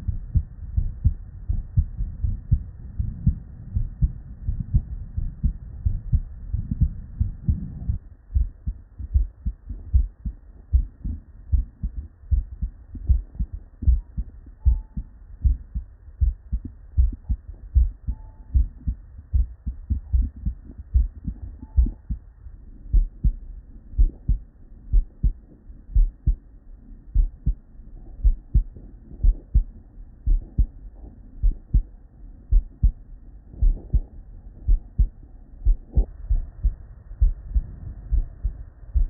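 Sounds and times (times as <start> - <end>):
heartbeat through stethoscope: 0.0 - 26.5, 27.1 - 39.0
background rumble: 0.0 - 39.0.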